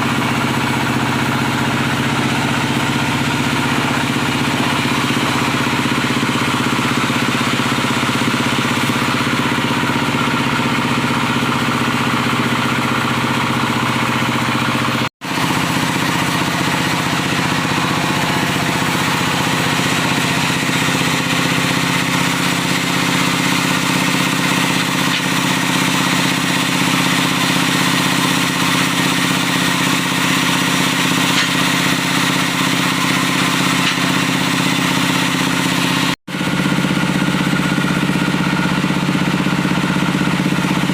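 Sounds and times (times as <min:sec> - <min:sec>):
diesel engine of sawing machine: 0:00.0 - 0:40.9.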